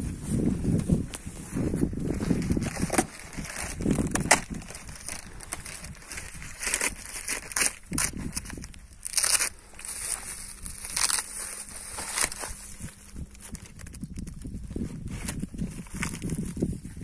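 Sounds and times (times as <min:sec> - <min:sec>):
plastic wrapping crinkling: 0:01.0 - 0:16.9.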